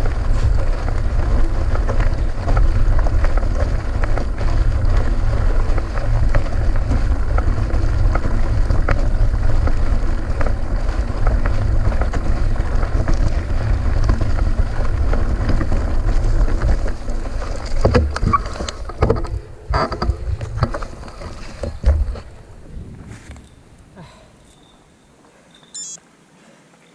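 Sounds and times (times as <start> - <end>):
bike clicks and rattles: 0.0 - 23.8
wind on microphone: 0.0 - 24.0
mountain bike rumbling on gravel: 0.0 - 24.1.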